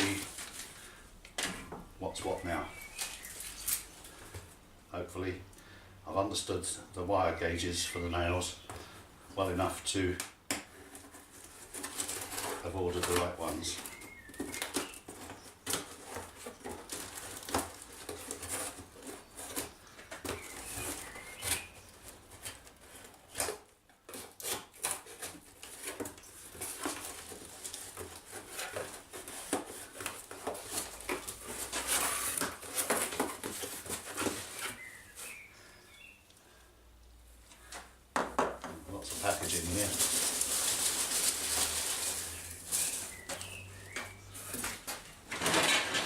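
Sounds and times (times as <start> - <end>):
packaging rustling and crinkling: 0.0 - 4.5, 10.7 - 36.2, 38.8 - 46.0.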